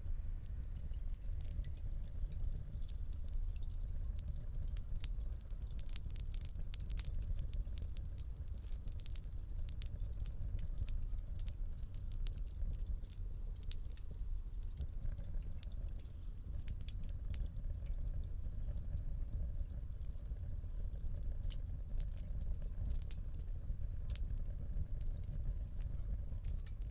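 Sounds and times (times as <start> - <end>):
low rumble of flames: 0.0 - 26.9
wood fire crackling and popping: 0.0 - 26.9.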